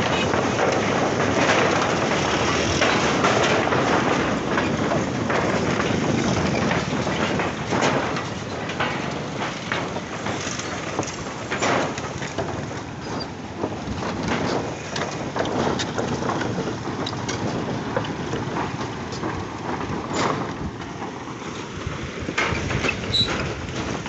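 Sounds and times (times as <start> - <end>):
steady rushing noise: 0.0 - 24.0
wooden planks rattling underfoot: 0.0 - 24.0.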